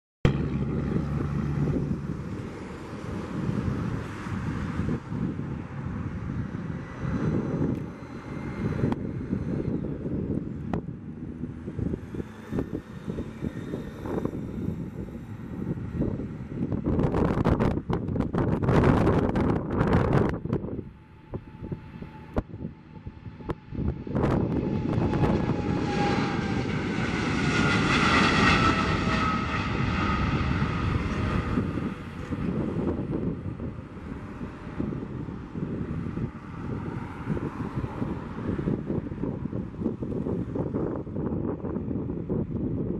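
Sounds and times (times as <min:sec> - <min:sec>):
gusty wind on microphone: 0:00.3 - 0:42.9
jet engines rumbling at high thrust: 0:00.3 - 0:42.9.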